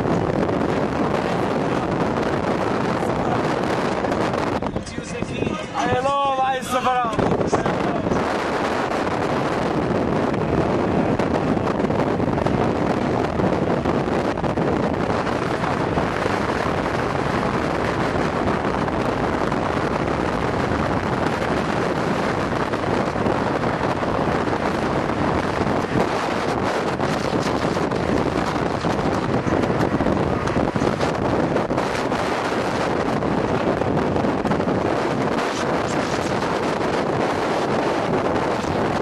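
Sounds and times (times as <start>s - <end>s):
road and engine noise: 0.0s - 39.0s
wind buffeting microphone: 0.0s - 39.0s.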